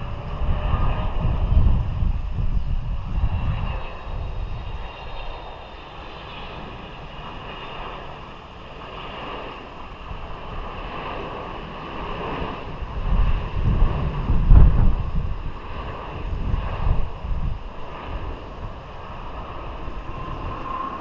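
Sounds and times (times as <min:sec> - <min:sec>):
jet engine rush and whine: 0:00.0 - 0:21.0
wind buffeting microphone: 0:00.0 - 0:21.0.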